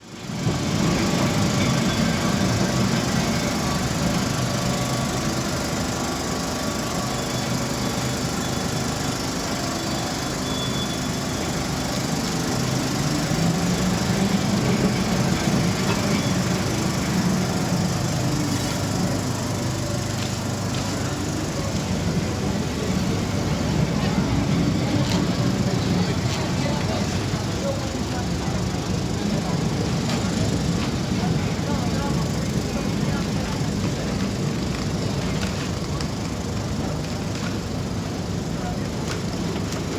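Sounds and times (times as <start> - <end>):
electric tram rumble and hum: 0.0 - 39.9
faint voices: 0.1 - 39.9.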